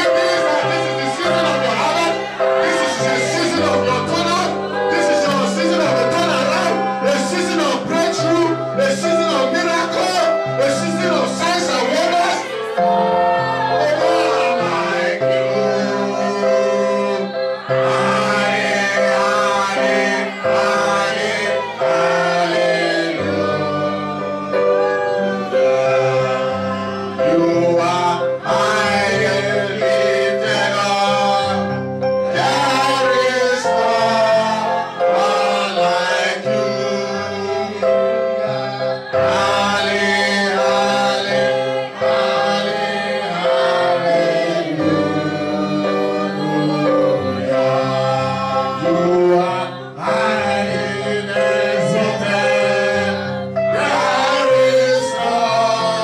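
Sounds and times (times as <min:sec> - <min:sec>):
held chords: 0:00.0 - 0:56.0
man and woman singing gospel: 0:00.0 - 0:56.0.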